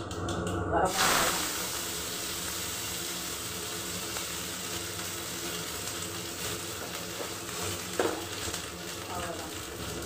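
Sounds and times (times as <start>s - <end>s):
pan sizzling on gas stove: 0.0s - 10.0s.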